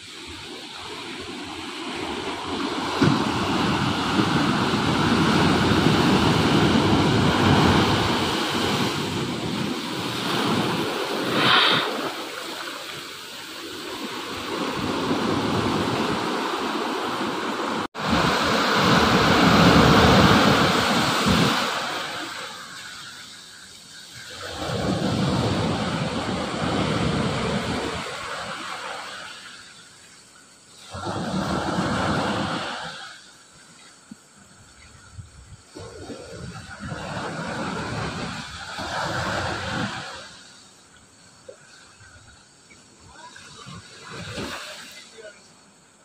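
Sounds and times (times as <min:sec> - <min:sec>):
ocean surf breaking: 0:00.0 - 0:34.3, 0:35.6 - 0:45.9.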